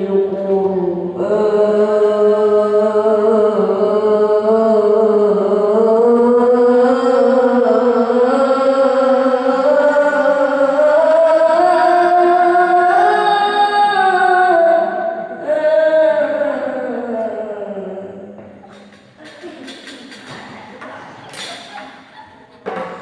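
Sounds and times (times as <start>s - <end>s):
devotional chant singing: 0.0s - 21.2s.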